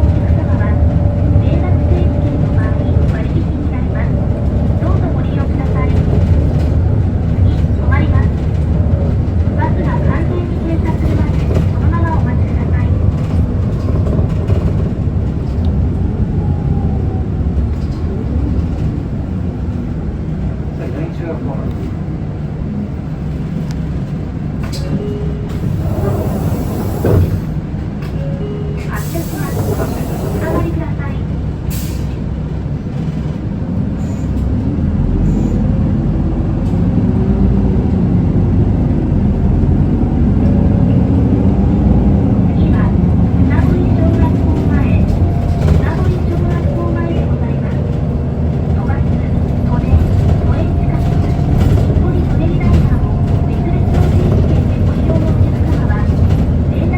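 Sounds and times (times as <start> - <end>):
bus diesel engine rumble: 0.0 - 56.9
road noise: 0.0 - 56.9.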